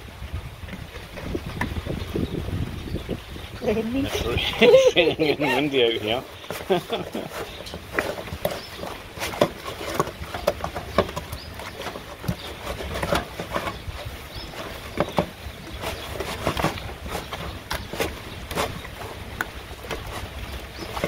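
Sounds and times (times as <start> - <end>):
low wind rumble: 0.0 - 21.0.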